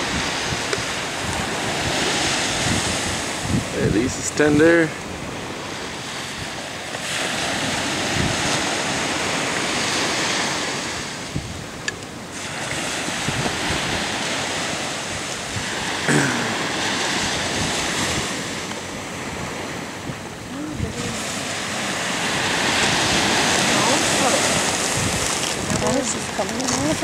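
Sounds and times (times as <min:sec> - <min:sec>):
small waves breaking on beach: 0:00.0 - 0:27.0
wind buffeting microphone: 0:00.0 - 0:27.0.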